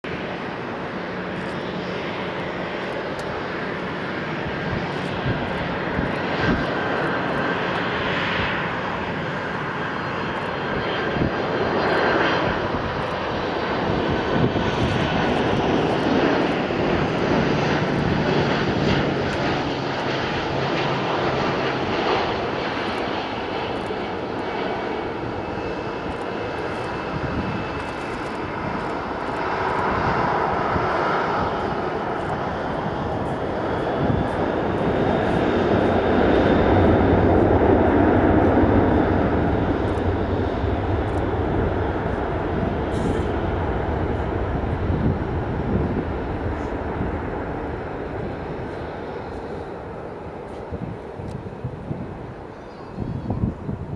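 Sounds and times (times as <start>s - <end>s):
jet engines rushing: 0.0s - 53.9s.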